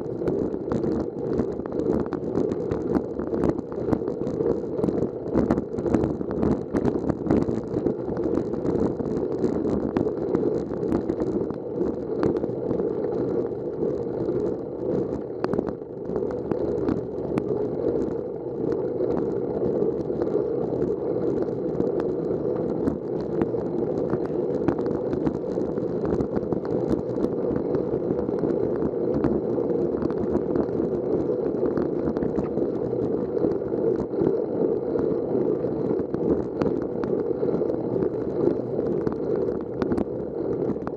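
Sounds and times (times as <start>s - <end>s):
wind and tyre noise: 0.0s - 40.9s.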